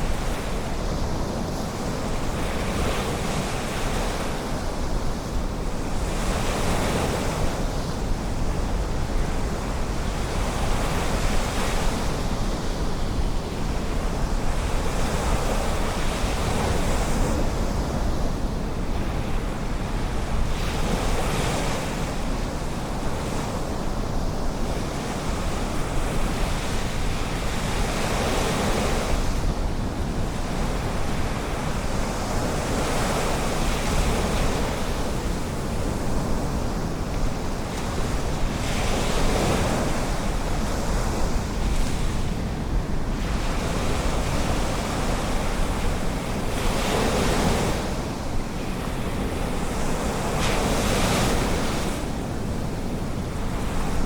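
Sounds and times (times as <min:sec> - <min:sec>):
wind rumbling on microphone: 0:00.0 - 0:54.0.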